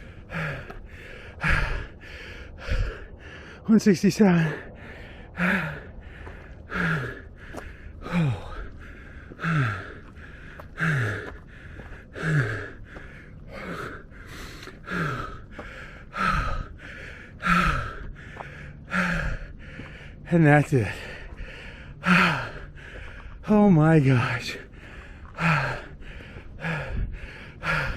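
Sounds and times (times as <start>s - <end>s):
man panting hard: 0.0s - 27.9s.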